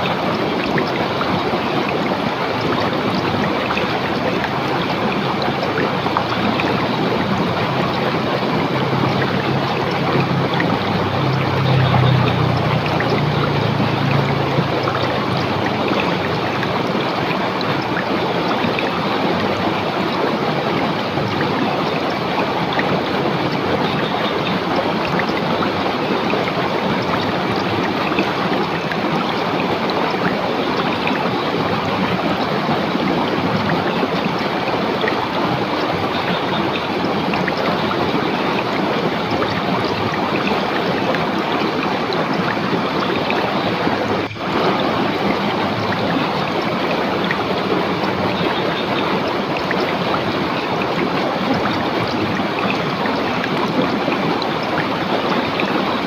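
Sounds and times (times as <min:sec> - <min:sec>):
river water running over rocks: 0:00.0 - 0:56.0.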